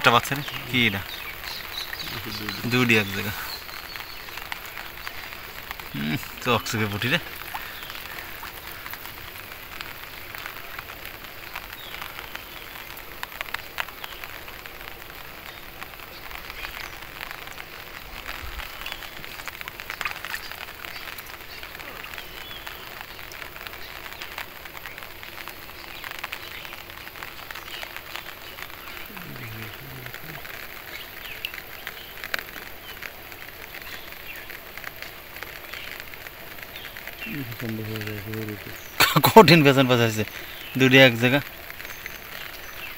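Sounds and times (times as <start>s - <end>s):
water dripping onto pond: 0.0s - 42.9s.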